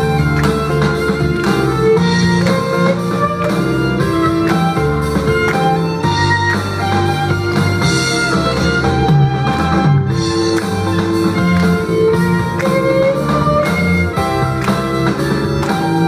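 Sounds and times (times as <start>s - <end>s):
contrabass line: 0.0s - 16.0s
violin melody: 0.0s - 16.0s.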